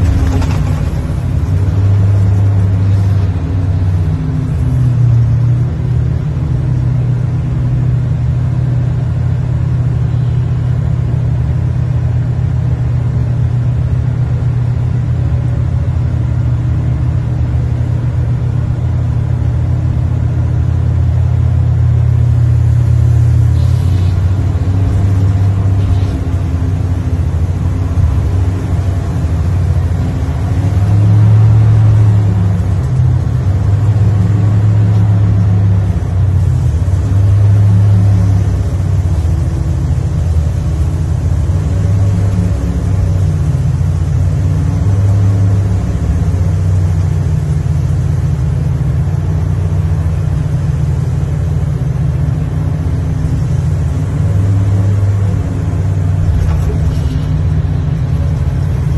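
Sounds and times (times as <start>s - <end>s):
excavator engine and hydraulics drone: 0.0s - 58.9s.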